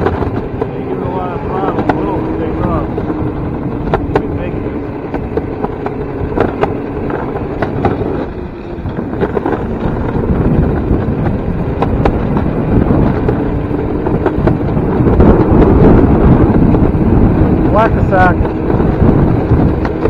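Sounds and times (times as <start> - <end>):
cart wheels rumbling on rails: 0.0 - 20.0
wind on microphone: 0.0 - 20.0.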